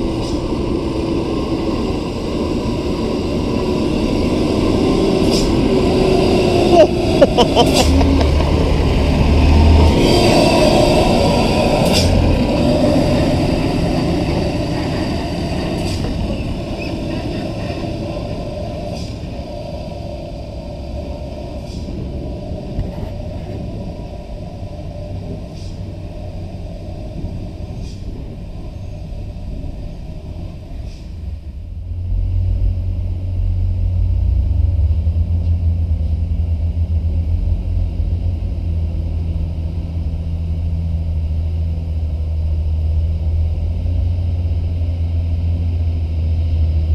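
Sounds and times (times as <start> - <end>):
dump truck diesel engine: 0.0 - 46.9
steady low rumble: 0.0 - 46.9.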